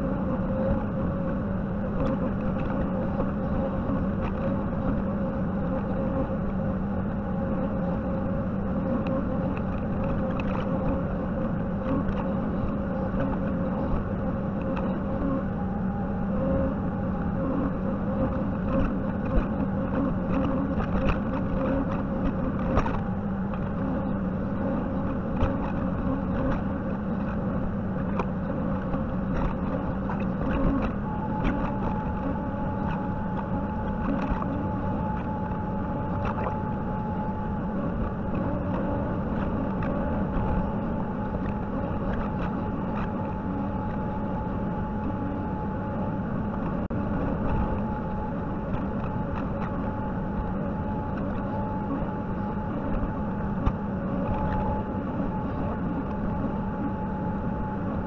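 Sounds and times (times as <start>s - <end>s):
steady high whine: 0.0s - 58.0s.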